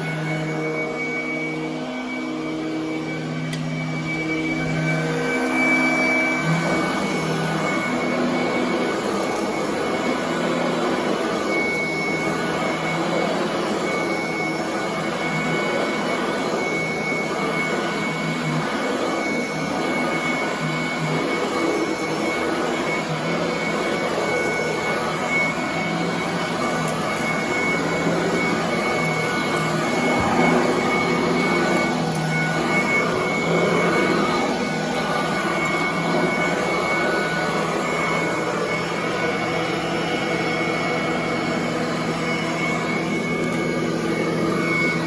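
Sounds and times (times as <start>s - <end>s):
vacuum cleaner motor whining: 0.0s - 45.0s.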